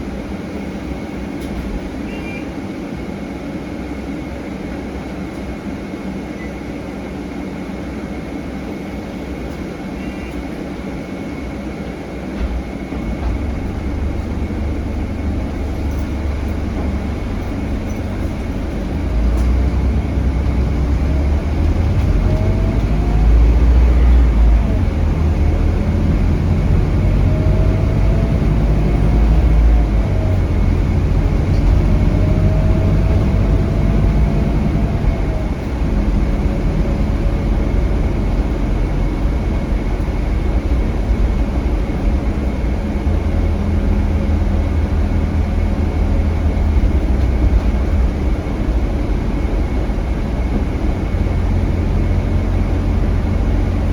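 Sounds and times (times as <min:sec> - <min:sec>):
bus diesel engine rumble: 0:00.0 - 0:53.9.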